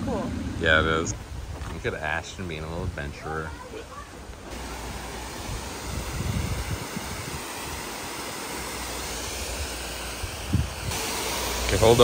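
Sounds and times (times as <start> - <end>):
wind buffeting microphone: 0.0 - 3.6, 4.2 - 8.1, 9.5 - 12.0.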